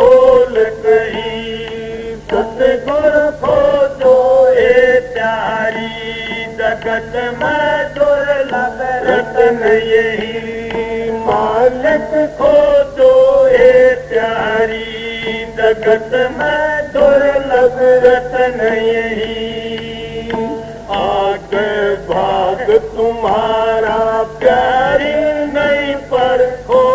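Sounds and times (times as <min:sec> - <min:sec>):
man singing devotional chant: 0:00.0 - 0:26.9.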